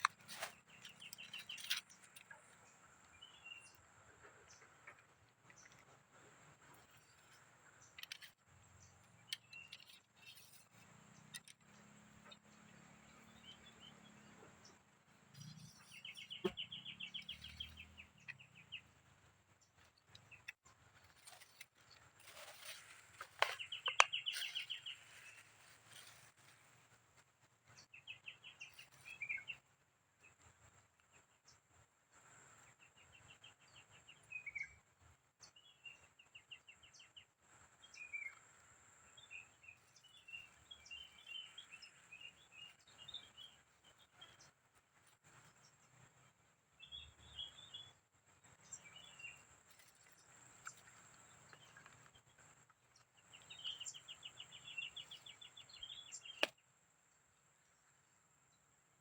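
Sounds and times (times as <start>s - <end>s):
small birds chirping: 0.0s - 56.8s.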